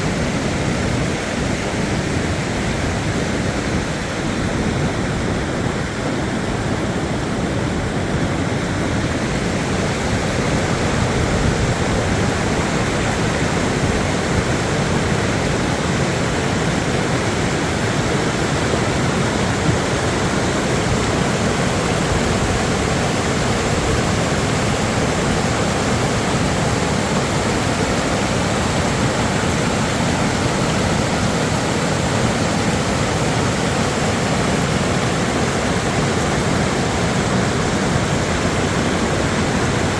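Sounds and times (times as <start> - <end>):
fast-flowing creek roaring: 0.0 - 39.9.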